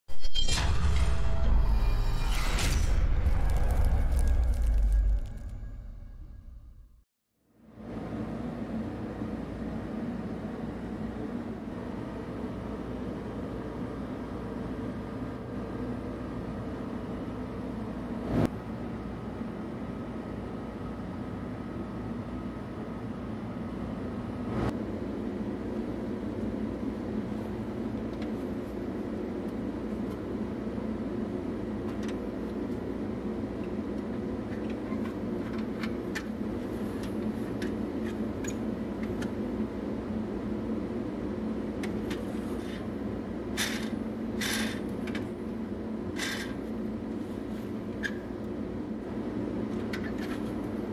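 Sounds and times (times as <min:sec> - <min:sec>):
steady low hum: 0:00.6 - 0:50.9.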